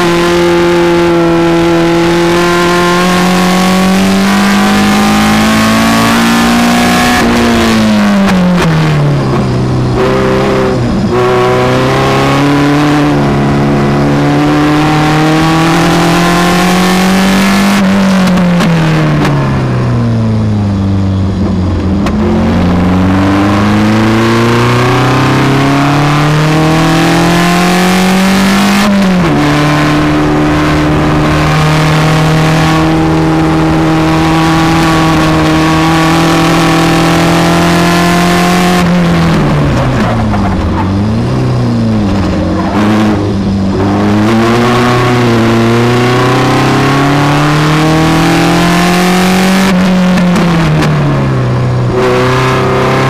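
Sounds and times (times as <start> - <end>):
sports car engine at speed: 0.0 - 53.0.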